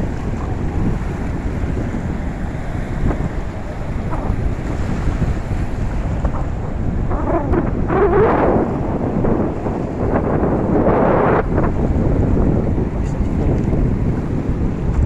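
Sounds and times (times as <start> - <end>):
choppy sea water: 0.0 - 15.0
distant surf: 0.0 - 15.0
wind buffeting microphone: 0.0 - 15.0.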